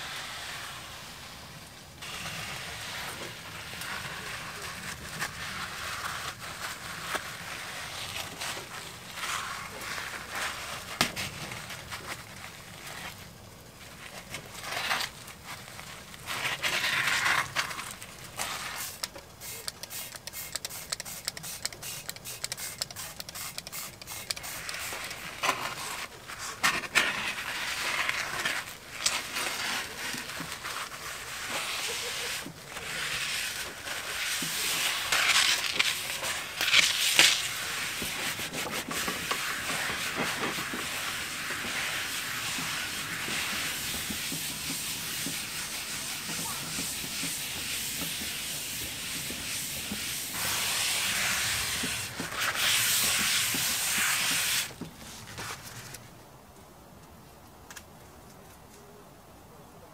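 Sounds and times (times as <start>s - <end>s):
paper towel scrubbing a griddle: 0.0s - 55.9s.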